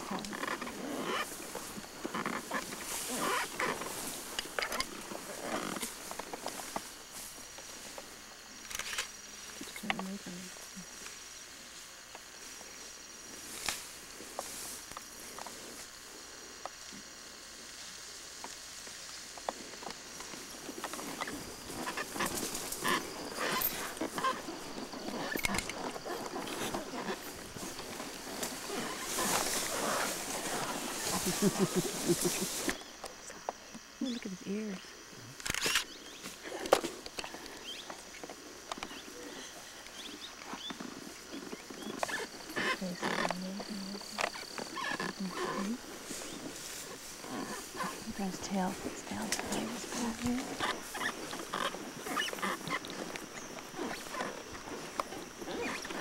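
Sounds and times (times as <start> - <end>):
tall grass rustling and crackling: 0.0 - 56.0.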